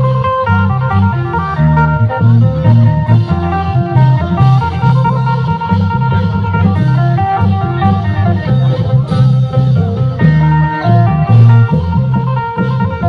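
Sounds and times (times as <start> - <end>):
bass line: 0.0 - 13.0
drums: 0.0 - 13.0.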